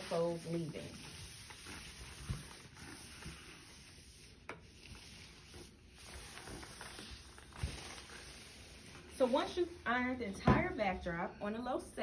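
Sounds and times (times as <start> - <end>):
iron rubbing on cloth: 0.0 - 10.2.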